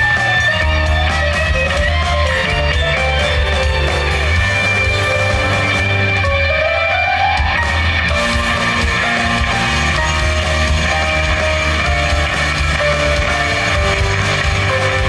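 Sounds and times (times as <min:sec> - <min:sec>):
loud steady bass: 0:00.0 - 0:15.0
sustained electric guitar notes: 0:00.0 - 0:15.0.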